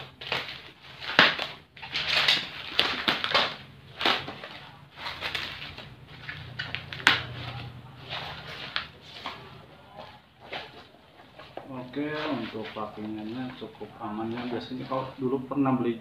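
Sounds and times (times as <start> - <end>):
bubble wrap crinkling: 0.0 - 15.6.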